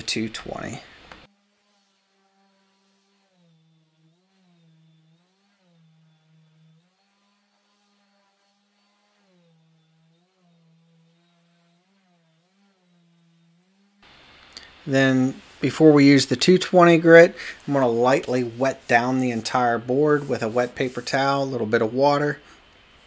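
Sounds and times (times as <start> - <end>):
orbital sander on wood: 0.0 - 23.0.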